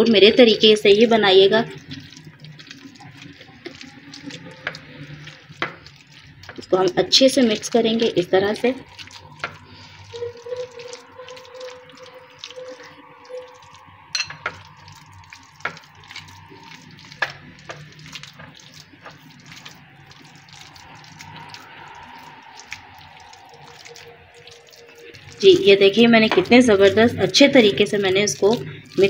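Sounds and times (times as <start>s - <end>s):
wet squelching of mince: 0.2s - 29.0s.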